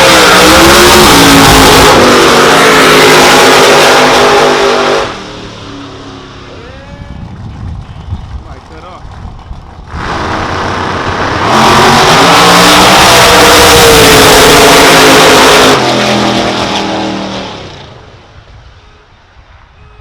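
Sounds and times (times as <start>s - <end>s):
drag racing car at full throttle: 0.0s - 18.7s.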